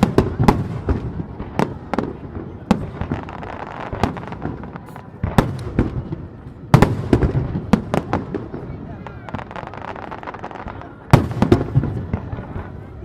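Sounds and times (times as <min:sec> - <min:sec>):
fireworks booming and cracking: 0:00.0 - 0:13.0
fireworks crackling: 0:00.0 - 0:13.0.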